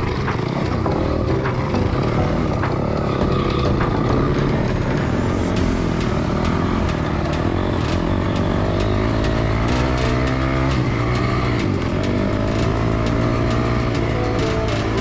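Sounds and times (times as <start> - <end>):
dirt bike engine running: 0.0 - 15.0
sharp ticks: 0.0 - 15.0.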